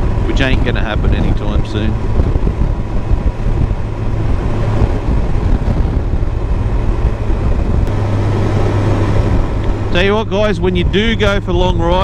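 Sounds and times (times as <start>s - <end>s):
motorcycle engine and road rumble: 0.0s - 12.0s
wind rushing over camera: 0.0s - 12.0s.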